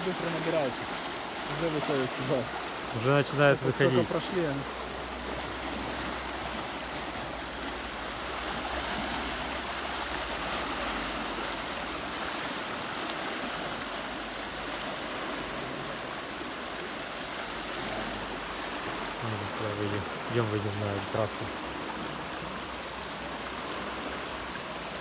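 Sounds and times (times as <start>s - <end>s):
floodwater rushing and splashing: 0.0s - 25.0s.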